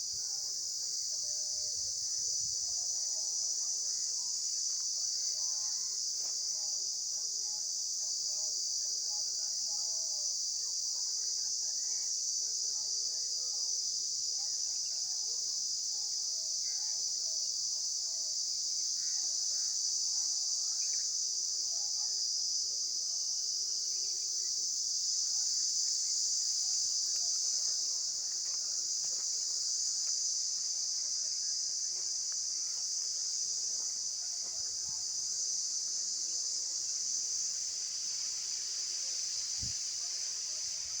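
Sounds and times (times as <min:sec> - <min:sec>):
insects chorus: 0:00.0 - 0:41.0.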